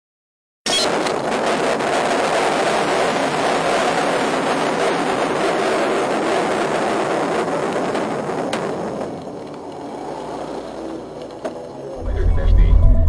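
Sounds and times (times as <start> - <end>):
road and wind noise in car: 0.9 - 13.0.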